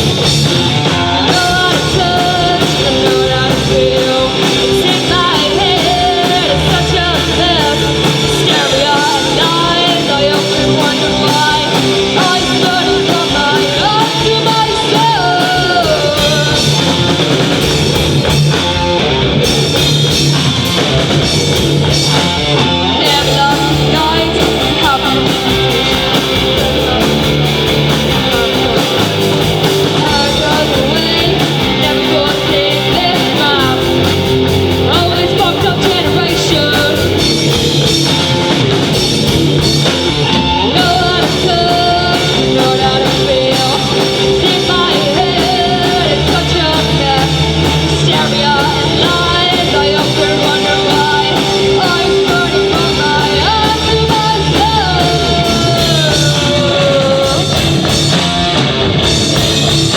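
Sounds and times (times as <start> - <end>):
person singing: 0.0 - 19.1, 22.9 - 38.8, 39.9 - 58.4
rock band playing live: 0.0 - 59.9.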